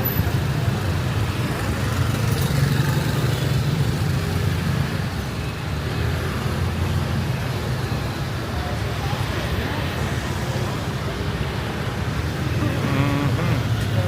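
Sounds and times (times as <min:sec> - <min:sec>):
motorbikes and cars passing: 0:00.0 - 0:14.0.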